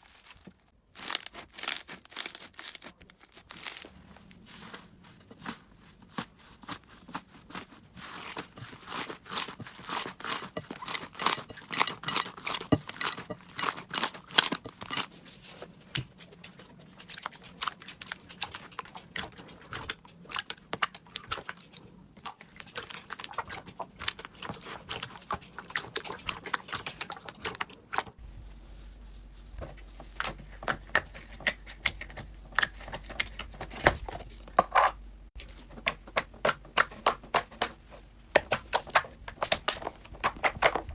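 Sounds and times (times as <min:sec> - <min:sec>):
slime squishing and crackling: 0:00.0 - 0:28.2, 0:30.0 - 0:34.1, 0:35.8 - 0:40.9.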